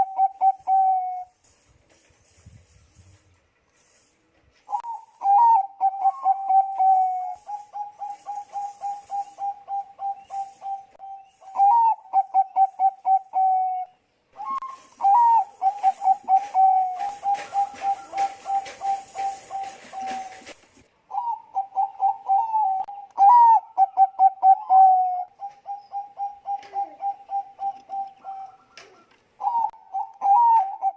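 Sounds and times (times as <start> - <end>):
dove cooing: 0.0 - 1.3, 4.7 - 30.9.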